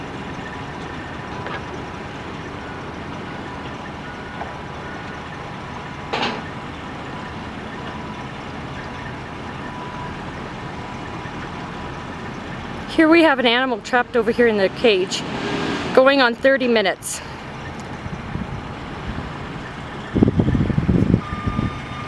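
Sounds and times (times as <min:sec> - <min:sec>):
vehicle engines rumbling: 0:00.0 - 0:22.0.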